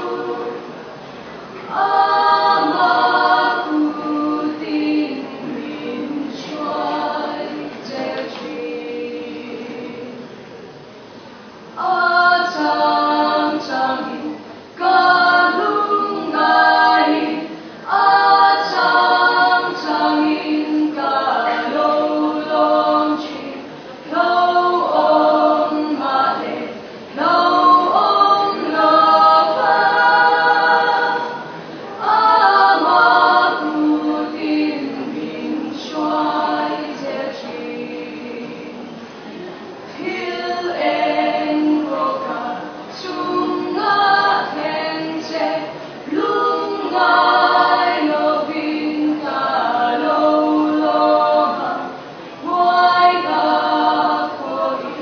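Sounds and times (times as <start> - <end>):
female vocal quartet singing: 0.0 - 10.5, 11.4 - 55.0.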